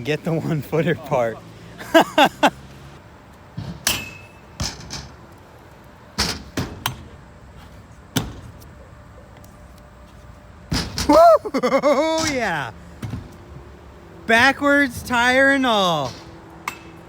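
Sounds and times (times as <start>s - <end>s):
bike tyres thudding on ramps: 2.6s - 9.4s, 10.0s - 17.0s.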